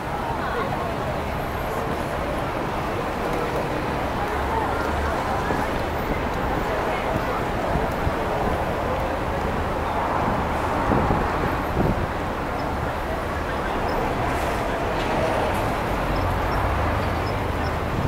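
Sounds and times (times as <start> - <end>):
indistinct talk of people: 0.0 - 18.0
traffic rumble: 0.0 - 18.0.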